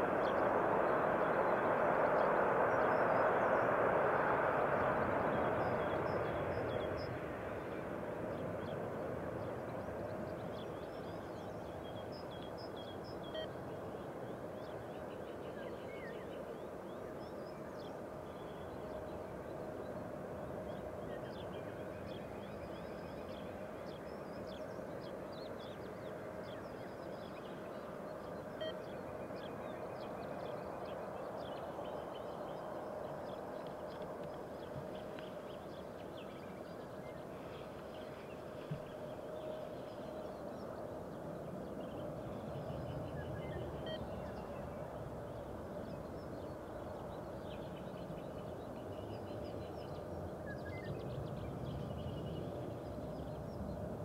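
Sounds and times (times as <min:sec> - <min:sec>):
distant jet engines: 0:00.0 - 0:54.0.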